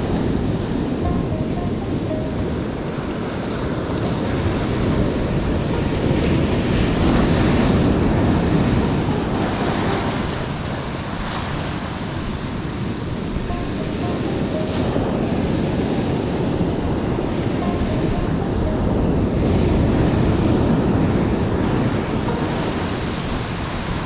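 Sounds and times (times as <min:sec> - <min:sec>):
ocean surf washing in: 0:00.0 - 0:24.0
wind buffeting microphone: 0:00.0 - 0:24.0.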